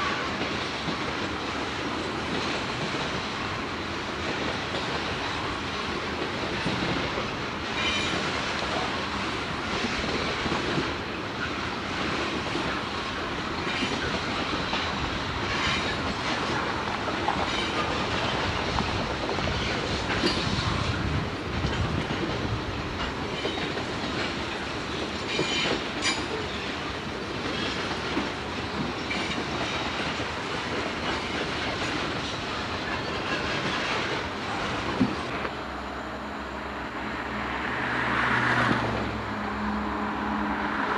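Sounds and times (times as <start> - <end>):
freight train rumbling past: 0.0 - 40.9.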